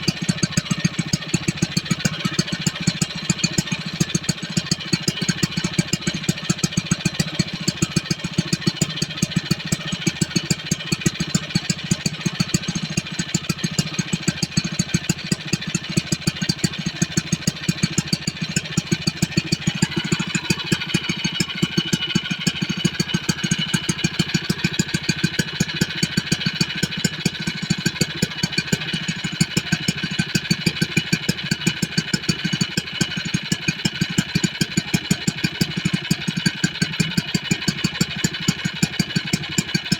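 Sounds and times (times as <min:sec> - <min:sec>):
water pump engine running: 0:00.0 - 0:39.9.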